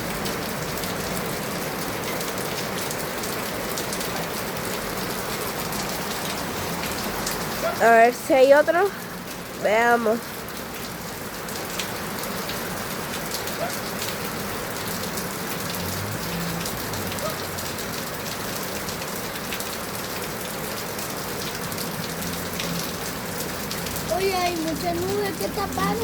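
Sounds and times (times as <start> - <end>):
heavy rain falling: 0.0 - 26.0
raindrops ticking on surfaces: 0.0 - 26.0.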